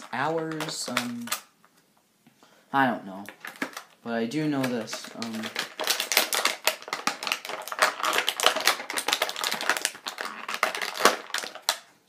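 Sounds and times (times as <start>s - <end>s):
hands clicking small hard objects: 0.0s - 1.5s, 3.2s - 11.9s.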